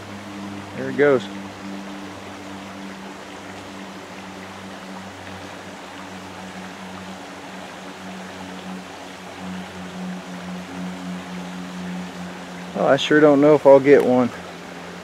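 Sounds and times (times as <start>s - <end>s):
background hiss: 0.0s - 15.0s
steady low hum: 0.0s - 15.0s.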